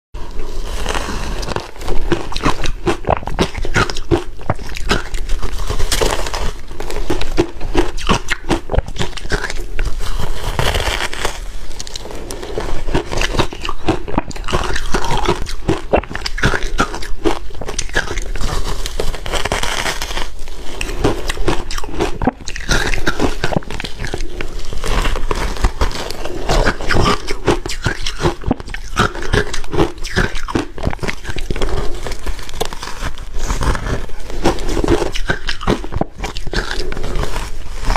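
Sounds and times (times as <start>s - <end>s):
ice crunching being chewed: 0.2s - 37.9s.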